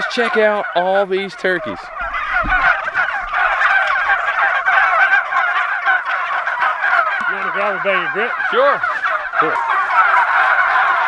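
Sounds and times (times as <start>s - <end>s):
turkeys gobbling: 0.0s - 11.0s.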